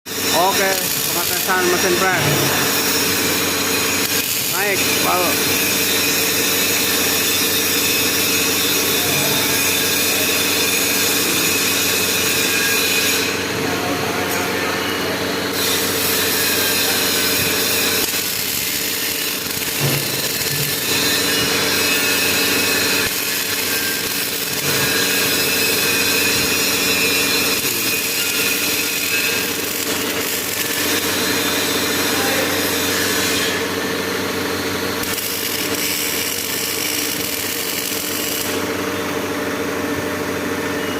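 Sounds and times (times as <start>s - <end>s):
hydraulic press power unit humming: 0.1s - 40.9s.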